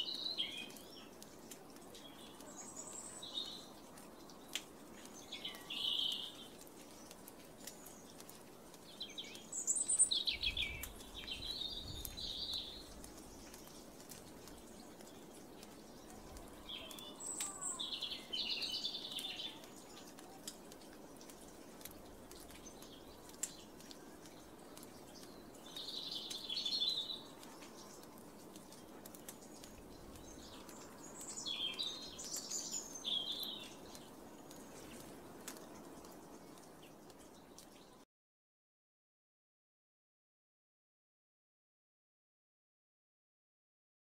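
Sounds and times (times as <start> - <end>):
songbirds chirping: 0.0 - 38.0
faint outdoor background: 0.0 - 38.1.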